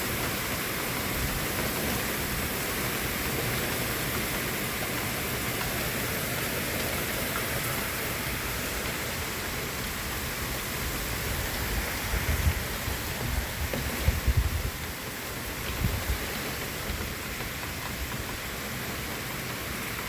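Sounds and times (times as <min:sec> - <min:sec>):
heavy rain downpour: 0:00.0 - 0:20.0.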